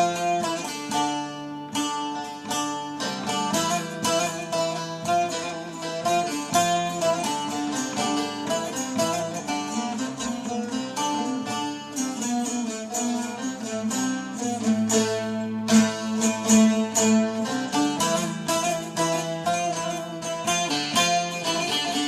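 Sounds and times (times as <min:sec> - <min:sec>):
plucked string instruments: 0:00.0 - 0:22.0.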